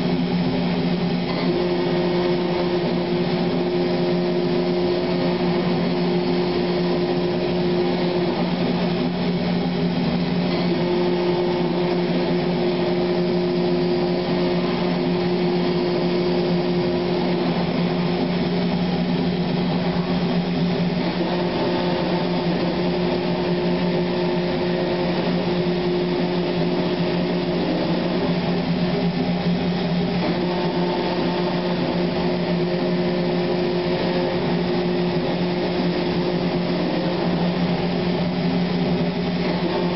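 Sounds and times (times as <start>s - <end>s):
high machine tone: 0.0s - 39.9s
industrial machine motor hum: 0.0s - 39.9s.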